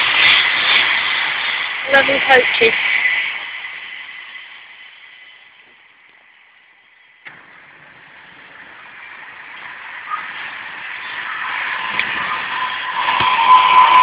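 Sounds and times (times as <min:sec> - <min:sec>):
electric train approaching: 0:00.0 - 0:14.0
high whine: 0:00.0 - 0:14.0.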